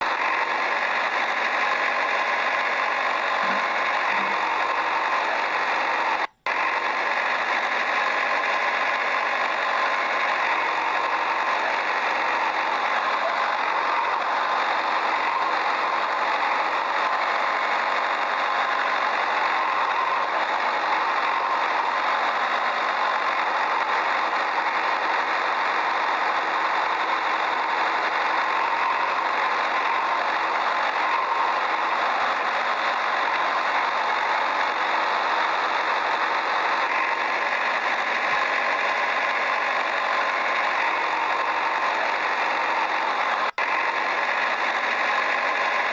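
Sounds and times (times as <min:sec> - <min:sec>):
motor humming: 0:00.0 - 0:45.9.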